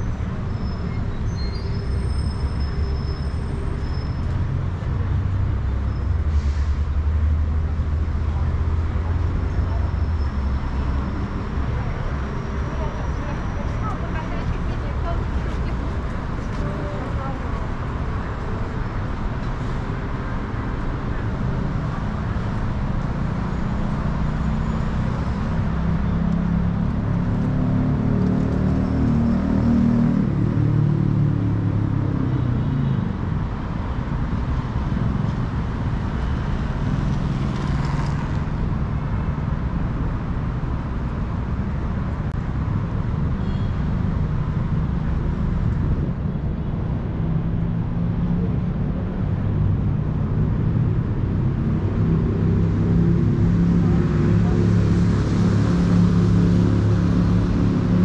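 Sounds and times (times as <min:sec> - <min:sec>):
traffic rumble: 0:00.0 - 0:58.0.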